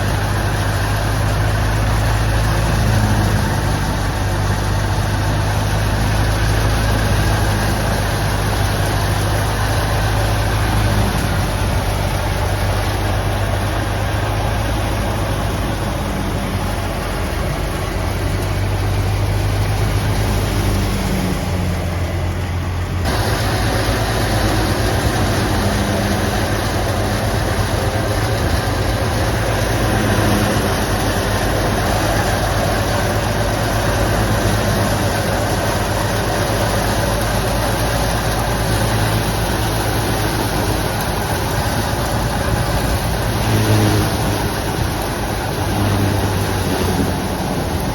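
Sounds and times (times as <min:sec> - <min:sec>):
low engine drone: 0:00.0 - 0:47.9
thresher machine noise: 0:00.0 - 0:47.9.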